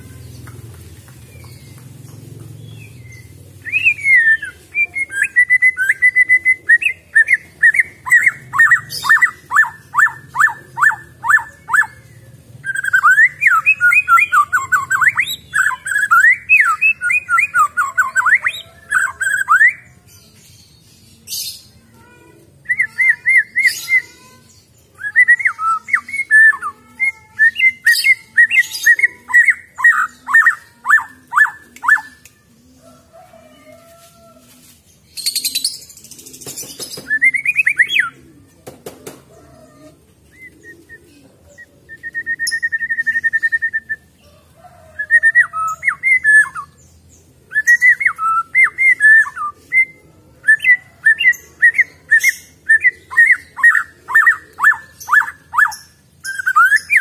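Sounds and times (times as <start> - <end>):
bird singing whistles and warbles: 2.7 - 20.0, 22.6 - 32.4, 35.1 - 38.2, 40.3 - 44.2, 44.8 - 57.0.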